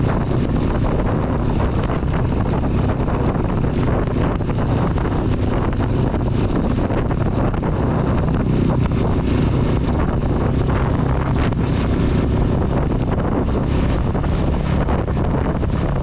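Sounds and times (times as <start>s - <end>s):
heavy rain: 0.0s - 16.0s
motorcycle engine running: 0.0s - 16.0s
wind rushing over microphone: 0.0s - 16.0s.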